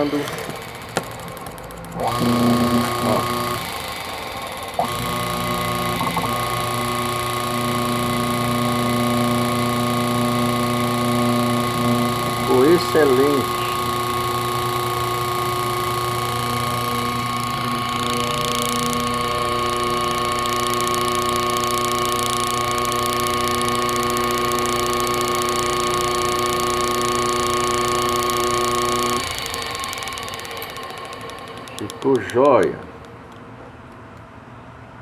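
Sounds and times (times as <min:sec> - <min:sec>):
motor spinning down: 0:00.0 - 0:33.5
motor humming: 0:00.0 - 0:34.4.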